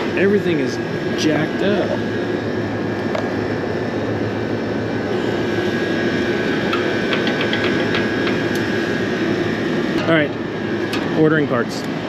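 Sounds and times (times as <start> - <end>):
air conditioner whirring: 0.0 - 12.0.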